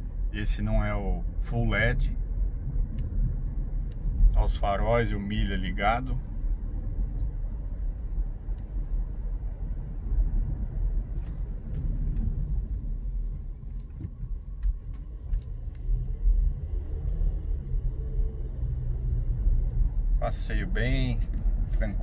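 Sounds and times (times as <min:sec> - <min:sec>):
low road and engine rumble: 0:00.0 - 0:22.0.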